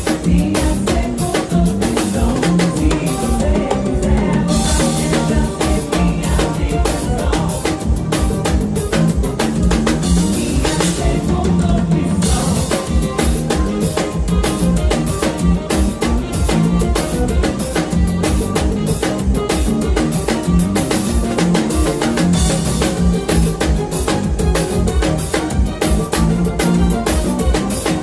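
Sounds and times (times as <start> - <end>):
band playing: 0.0 - 28.0
drum kit beat: 0.0 - 28.0.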